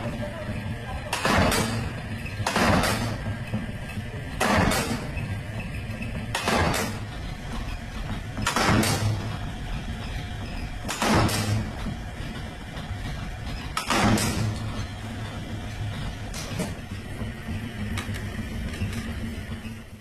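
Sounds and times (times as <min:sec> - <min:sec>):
machine humming: 0:00.0 - 0:20.0
press stamping strokes: 0:00.0 - 0:20.0.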